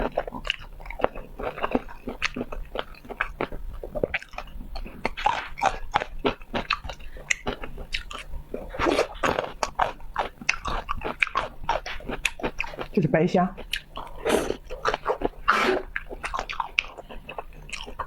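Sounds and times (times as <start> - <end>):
biting and chewing food: 0.0 - 13.0, 13.6 - 18.0.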